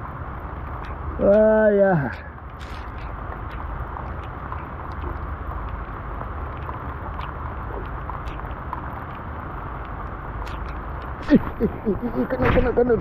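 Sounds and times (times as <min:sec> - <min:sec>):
wind and water rumble: 0:00.0 - 0:13.0
faint ticks: 0:00.6 - 0:01.5, 0:02.1 - 0:12.0.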